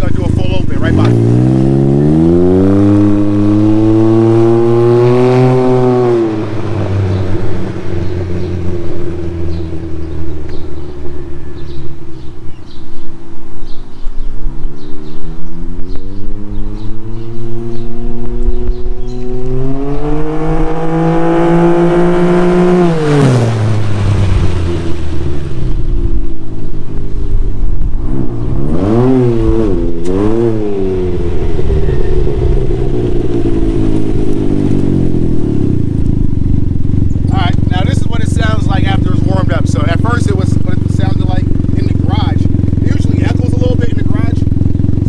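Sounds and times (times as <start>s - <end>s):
engine revs blipped: 0.0s - 12.8s, 14.8s - 45.0s
motorcycle engine accelerating: 0.0s - 45.0s.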